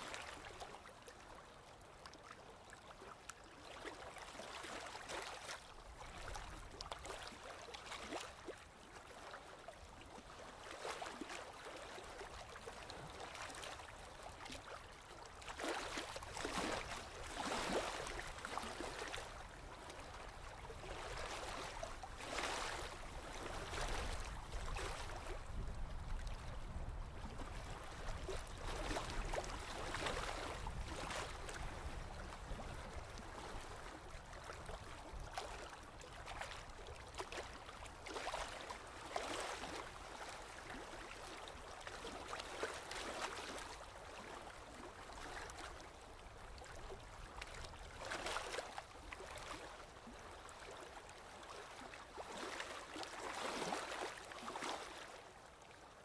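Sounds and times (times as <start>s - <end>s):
sea water lapping: 0.0s - 55.8s.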